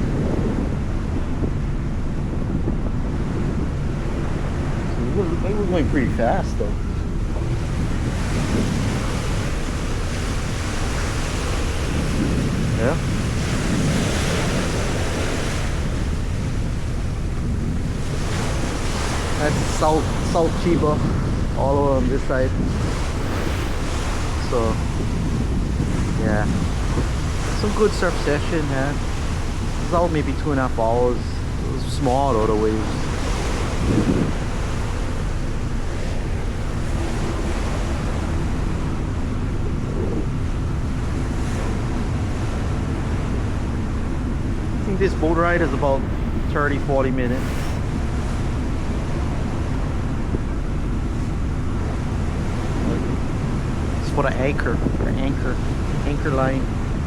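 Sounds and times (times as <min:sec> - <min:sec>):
sea water washing past boat: 0:00.0 - 0:57.0
wind rushing over microphone: 0:00.0 - 0:57.0.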